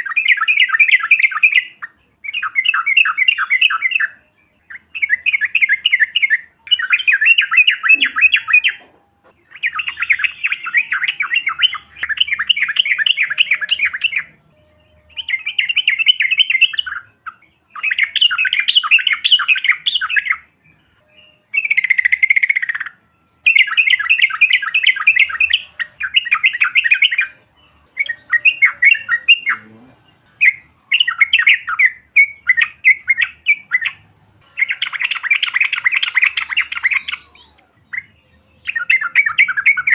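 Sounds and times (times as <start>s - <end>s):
bulbuls chattering song: 0.0s - 39.9s.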